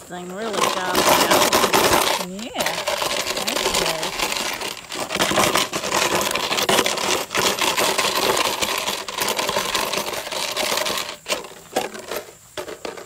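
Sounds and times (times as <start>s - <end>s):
plastic bottle crackling and crunching: 0.0s - 13.0s.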